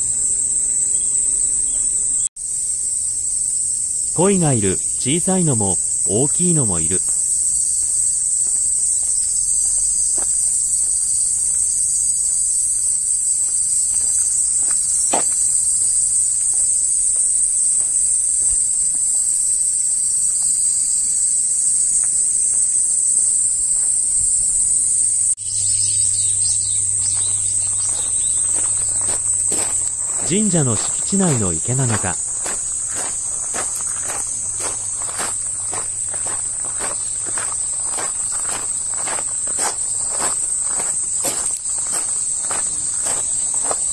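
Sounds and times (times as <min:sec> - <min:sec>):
shrill insect chorus: 0:00.0 - 0:43.9.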